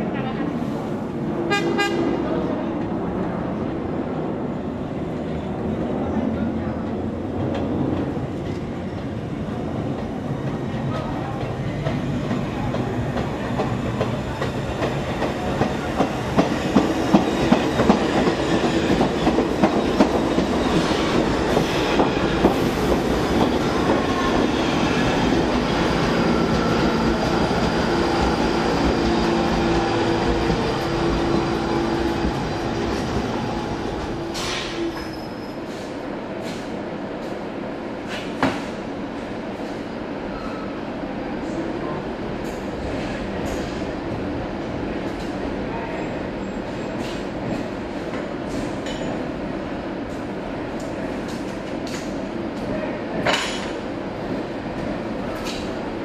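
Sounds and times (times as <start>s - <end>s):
subway train wheels clicking: 0.0s - 56.0s.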